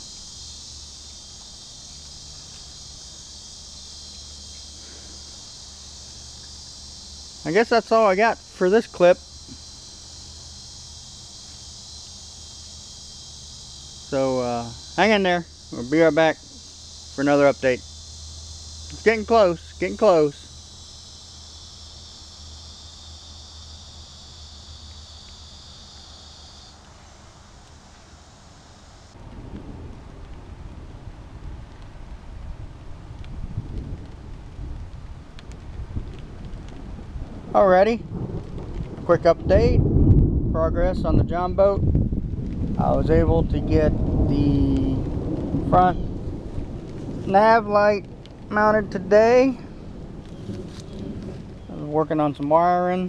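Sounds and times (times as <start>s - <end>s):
high-pitched insect chorus: 0.0s - 31.0s, 32.6s - 53.0s.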